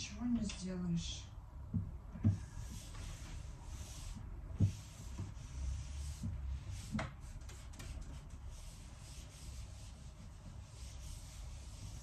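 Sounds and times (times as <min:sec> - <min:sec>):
cloth wiping furniture: 0:02.2 - 0:12.0.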